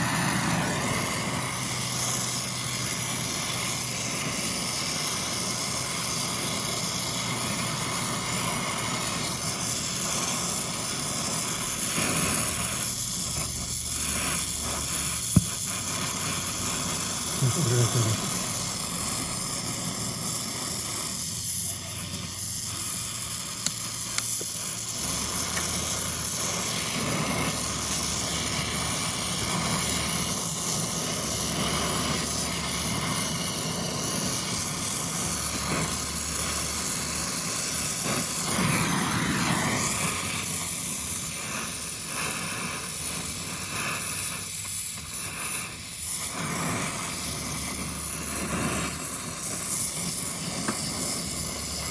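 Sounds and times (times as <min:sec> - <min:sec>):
gas torch flame hissing: 0:00.0 - 0:51.9.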